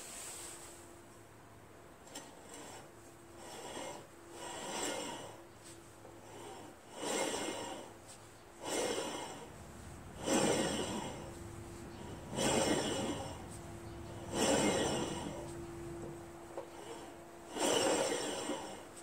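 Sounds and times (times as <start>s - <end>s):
mower blade rubbing whir: 2.1s - 19.0s.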